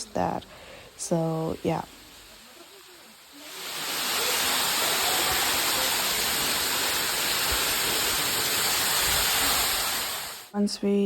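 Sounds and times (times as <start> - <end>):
falling water rushing: 0.0 - 10.5.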